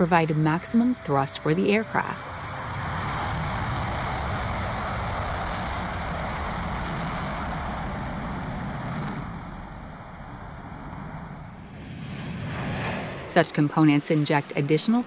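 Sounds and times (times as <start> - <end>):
jet engines roaring on takeoff: 0.0 - 15.0.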